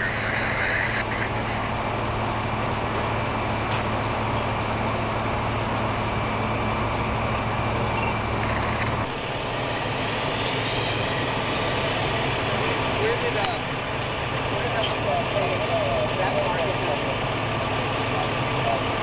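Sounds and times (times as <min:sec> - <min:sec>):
freeway traffic: 0:00.0 - 0:19.0
low hum: 0:00.0 - 0:19.0.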